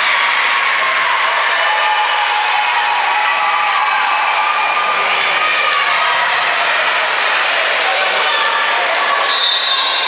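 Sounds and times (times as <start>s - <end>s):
crowd cheering and shouting: 0.0s - 10.0s.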